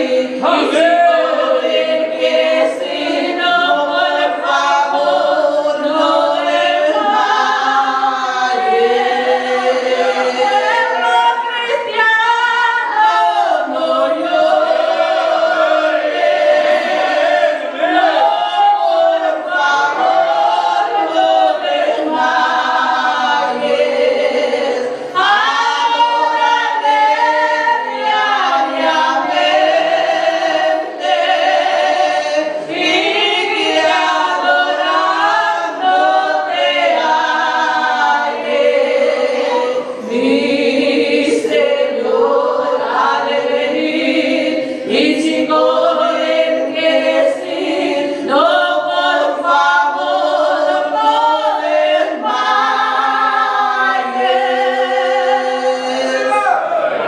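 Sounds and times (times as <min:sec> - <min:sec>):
women singing a hymn: 0:00.0 - 0:57.0.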